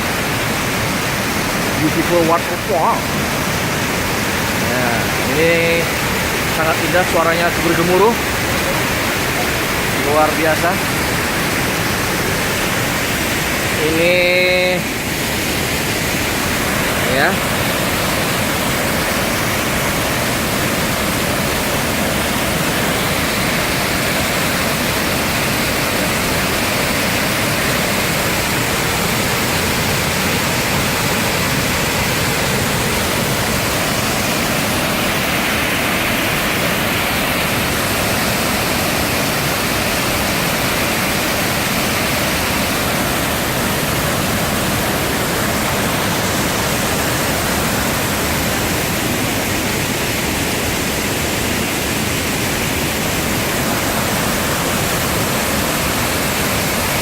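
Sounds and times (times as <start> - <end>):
waterfall rumbling: 0.0 - 57.0.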